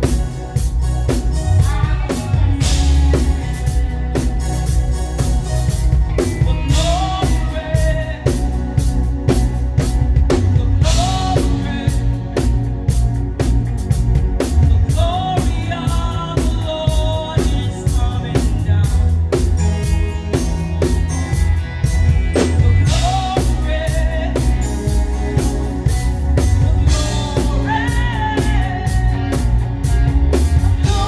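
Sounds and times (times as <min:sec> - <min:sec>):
drum kit beat: 0:00.0 - 0:31.0
live band music: 0:00.0 - 0:31.0
person singing: 0:00.0 - 0:31.0.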